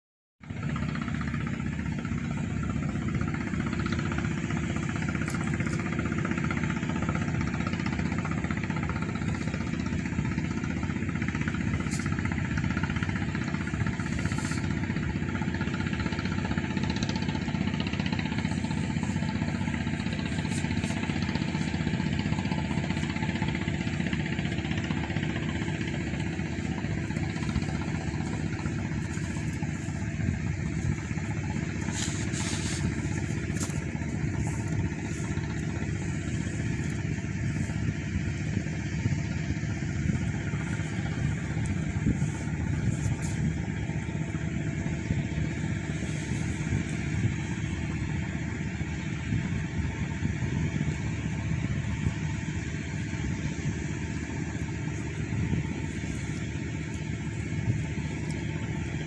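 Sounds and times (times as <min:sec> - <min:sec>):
engine idling: 0:00.4 - 0:59.0.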